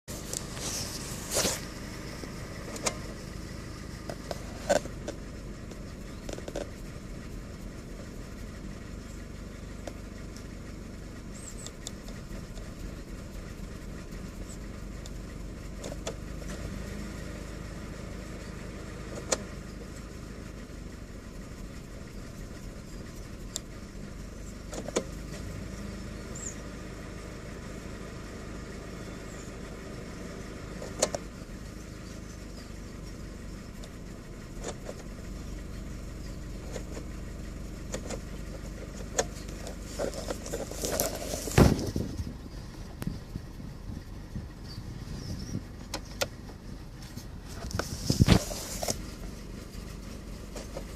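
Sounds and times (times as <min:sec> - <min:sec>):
car engine idling roughly: 0:00.0 - 0:50.9.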